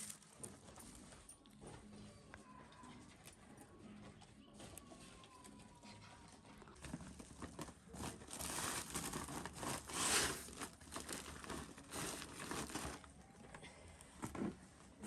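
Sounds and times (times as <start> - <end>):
rustling and crinkling handling: 0.0 - 2.0, 4.0 - 15.0.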